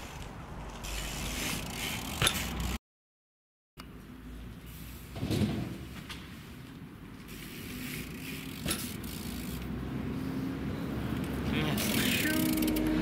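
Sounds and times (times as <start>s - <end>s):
bike rolling: 0.0s - 2.8s, 3.8s - 13.0s.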